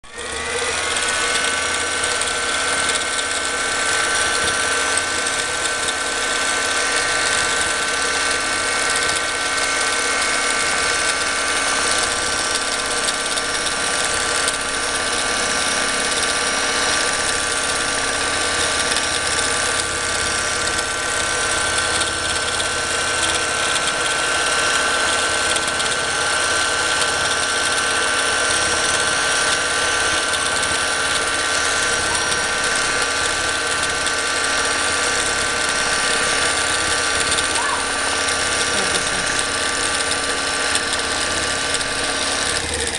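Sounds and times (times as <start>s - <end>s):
quilting machine motor whine: 0.0s - 42.9s
needle mechanical chatter: 0.1s - 42.9s.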